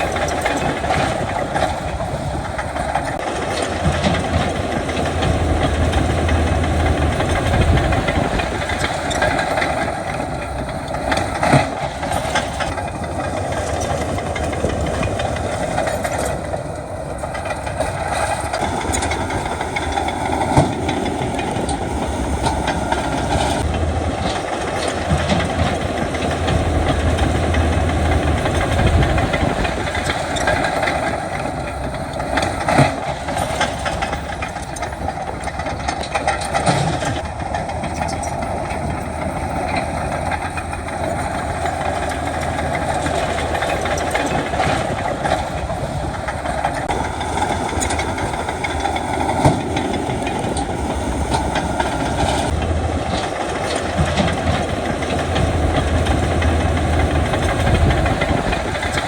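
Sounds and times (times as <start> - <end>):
heavy diesel machinery running: 0.0 - 59.0
metallic clanking: 0.0 - 59.0.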